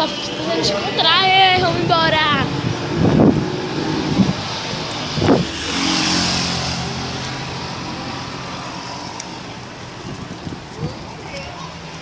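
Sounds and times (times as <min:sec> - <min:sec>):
car passing by: 0:00.0 - 0:10.6.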